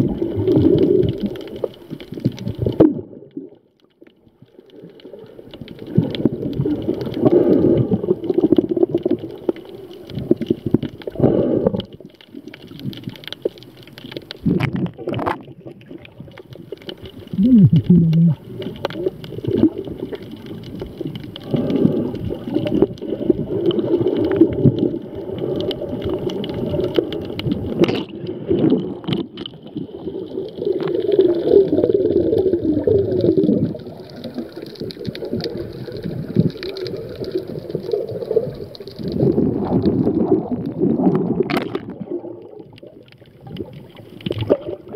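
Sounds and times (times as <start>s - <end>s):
underwater churning and gurgling: 0.0s - 44.9s.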